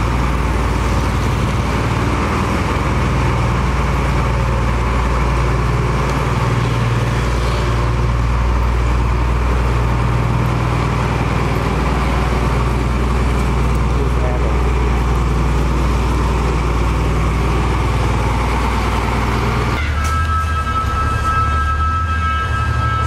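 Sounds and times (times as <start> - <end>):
diesel engine low drone: 0.0 - 23.0.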